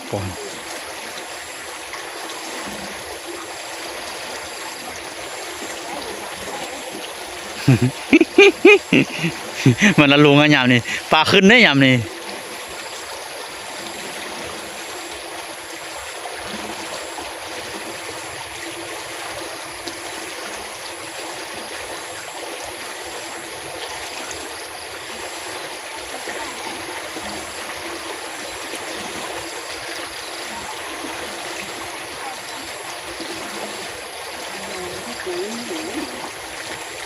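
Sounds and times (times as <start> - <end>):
rain runoff rushing: 0.0 - 37.0.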